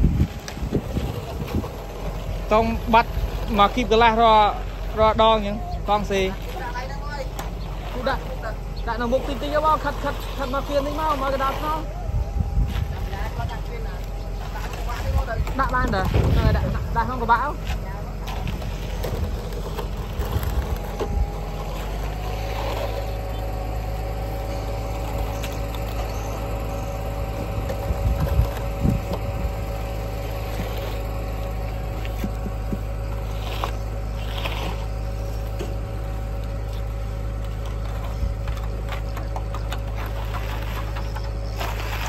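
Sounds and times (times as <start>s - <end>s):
engine running steadily: 0.0s - 42.0s.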